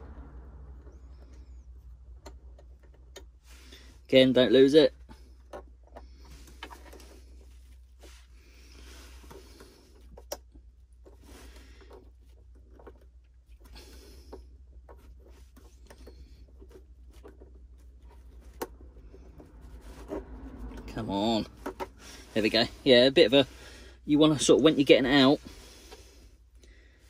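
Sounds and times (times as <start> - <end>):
hands rustling and fiddling: 0.6 - 27.0.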